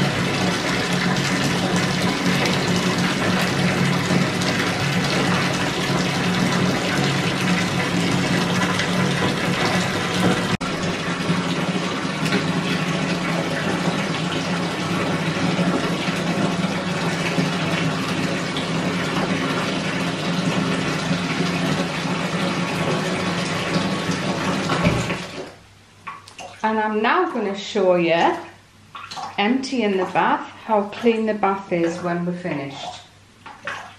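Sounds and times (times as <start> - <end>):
tap water pouring into bathtub: 0.0 - 26.7, 28.2 - 33.9.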